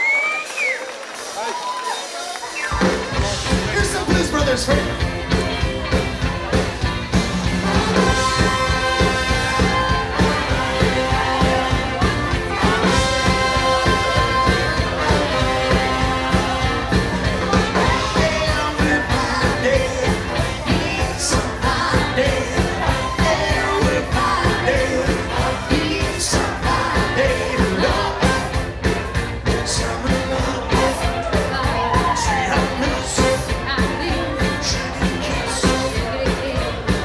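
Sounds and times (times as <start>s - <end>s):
keyboards: 0.0s - 37.0s
saxophone and brass section: 0.1s - 37.0s
bass: 2.6s - 37.0s
steady drum beat: 2.7s - 37.0s
lead vocal singing: 6.5s - 37.0s.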